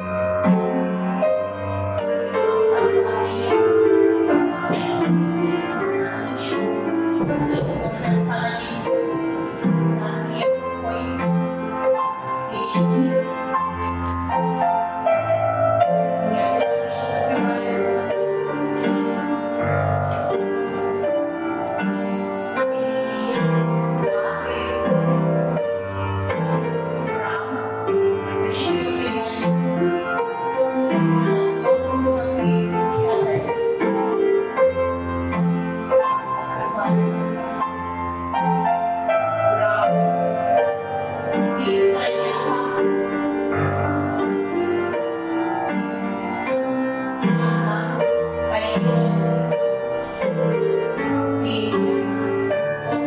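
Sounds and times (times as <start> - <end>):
piano dance music: 0.0 - 53.0.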